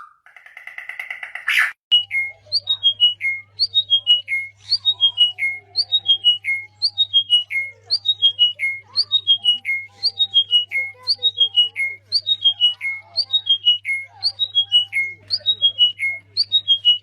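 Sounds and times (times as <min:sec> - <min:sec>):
bird whistling song: 0:00.0 - 0:17.0.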